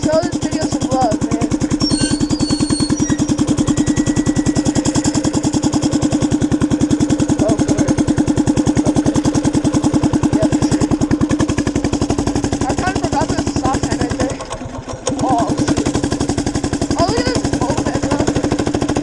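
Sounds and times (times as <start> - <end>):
small engine running steadily: 0.0 - 19.0.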